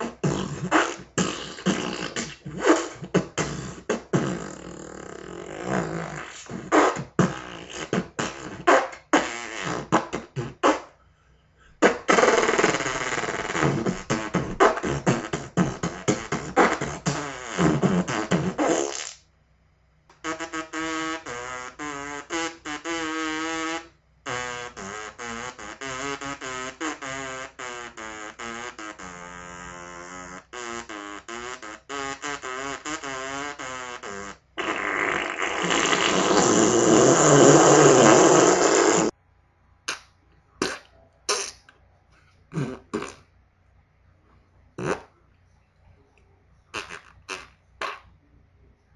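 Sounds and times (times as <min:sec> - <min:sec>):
fart sounds: 0:00.0 - 0:11.0, 0:11.8 - 0:19.3, 0:20.1 - 0:39.2, 0:39.9 - 0:41.7, 0:42.5 - 0:43.3, 0:44.8 - 0:45.2, 0:46.7 - 0:48.2.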